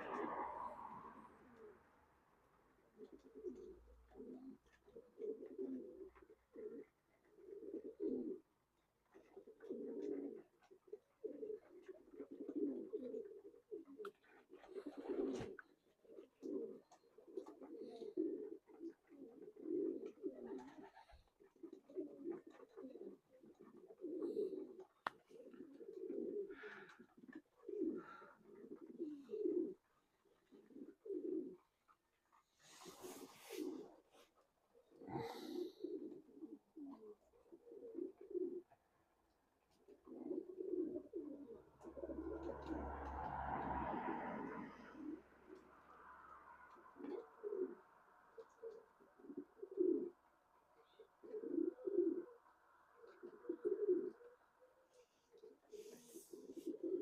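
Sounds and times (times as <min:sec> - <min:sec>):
pigeons cooing: 0:00.0 - 0:39.0, 0:39.7 - 0:57.0.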